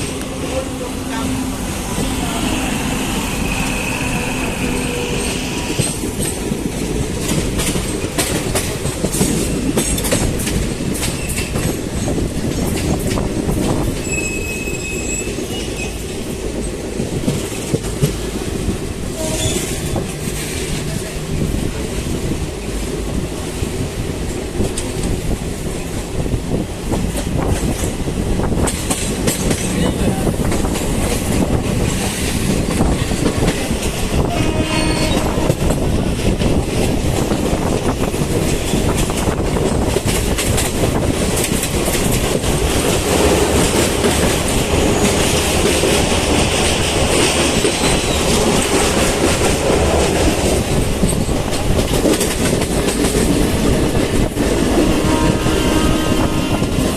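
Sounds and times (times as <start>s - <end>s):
train wheels clattering on rails: 0.0s - 56.9s.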